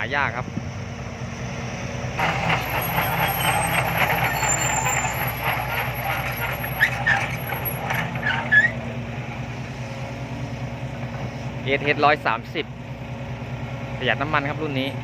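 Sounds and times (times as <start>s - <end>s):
heavy diesel machinery running: 0.0s - 15.0s
rattling engine: 0.0s - 15.0s.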